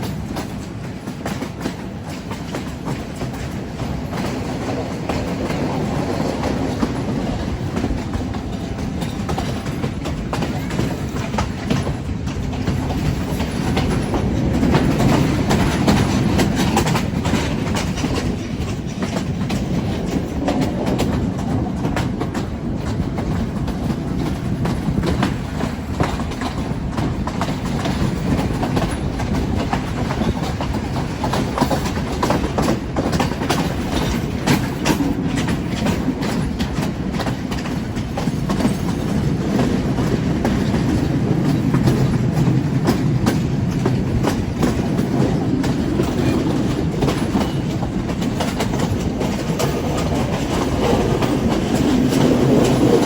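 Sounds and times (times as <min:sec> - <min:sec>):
train rumble: 0:00.0 - 0:53.0
wheels clacking over rail joints: 0:00.0 - 0:53.0.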